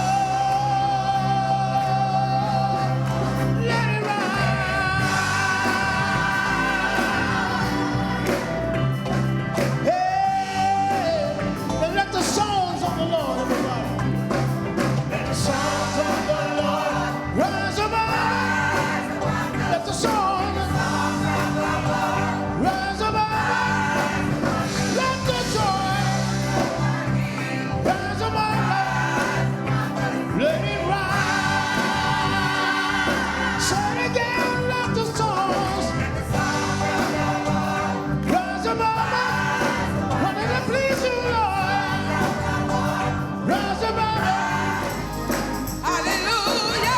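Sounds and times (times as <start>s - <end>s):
gospel singing with vibrato: 0.0s - 46.9s
sustained instrumental chords: 0.0s - 46.9s.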